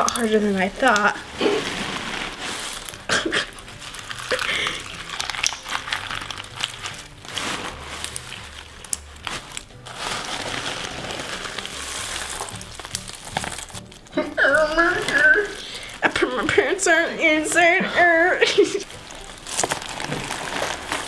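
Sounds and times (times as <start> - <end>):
slime with straw pieces crunching: 0.0 - 17.8, 18.4 - 21.0.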